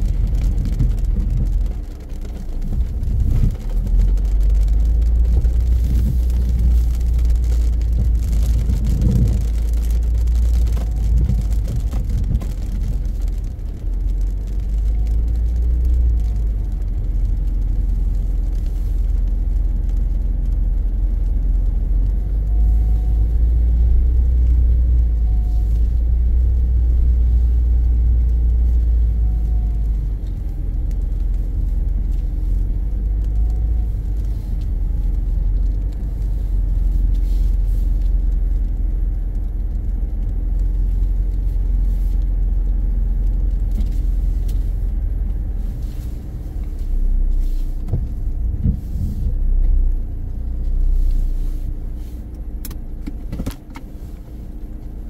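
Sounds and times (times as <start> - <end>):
light ticks: 0.0 - 46.9, 52.2 - 55.0
car engine and road rumble: 0.0 - 55.0.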